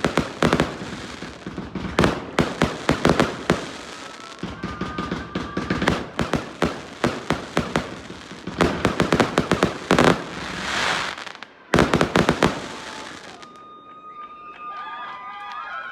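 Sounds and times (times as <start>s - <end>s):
fireworks hissing: 0.0s - 5.0s, 5.6s - 13.4s
firecrackers exploding: 0.0s - 13.7s.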